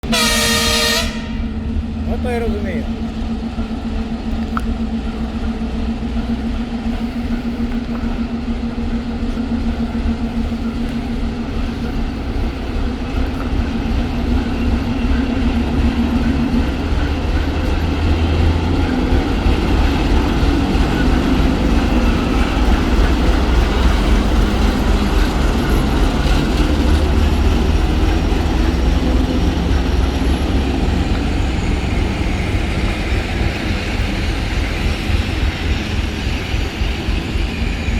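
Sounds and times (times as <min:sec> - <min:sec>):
diesel locomotive engine drone: 0:00.0 - 0:37.9.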